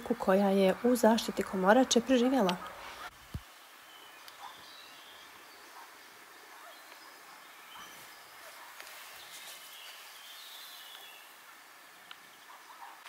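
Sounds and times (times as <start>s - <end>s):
songbirds chirping: 0.0s - 13.0s
steady background hiss: 0.0s - 13.0s.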